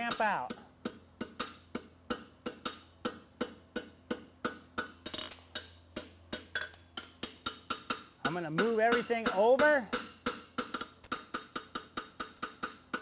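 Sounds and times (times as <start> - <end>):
hammer striking horseshoe on anvil: 0.0 - 13.0.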